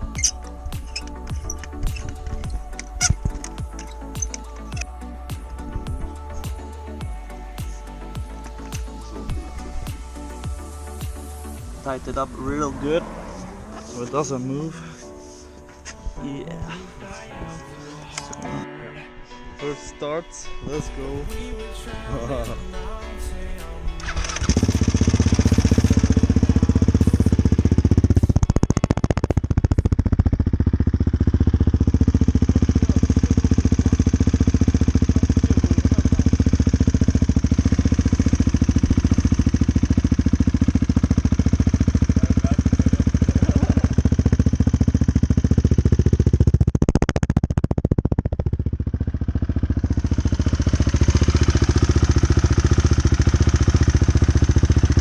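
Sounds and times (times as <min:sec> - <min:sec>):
motorcycle engine idling loudly: 0:00.0 - 0:14.3, 0:24.0 - 0:55.0.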